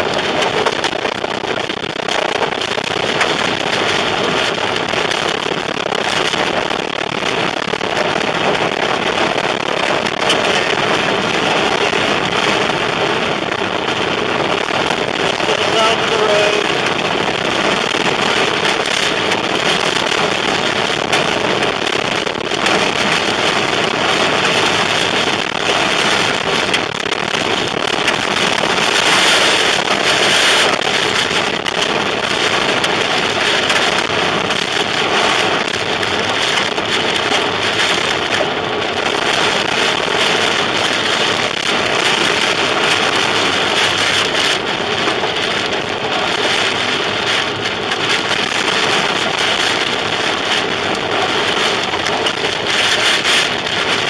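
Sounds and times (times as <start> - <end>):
heavy rain pelting a car: 0.0 - 54.0.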